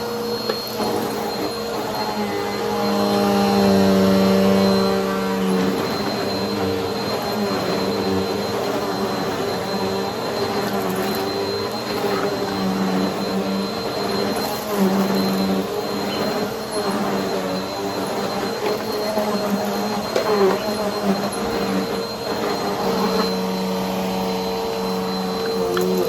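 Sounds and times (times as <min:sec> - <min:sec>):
high whine: 0:00.0 - 0:26.0
vacuum cleaner running: 0:00.0 - 0:26.0.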